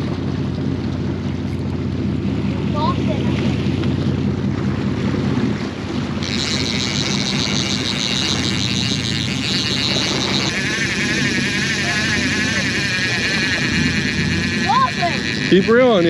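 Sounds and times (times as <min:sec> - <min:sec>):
boat engines running: 0:00.0 - 0:16.0
high whirring: 0:01.5 - 0:16.0.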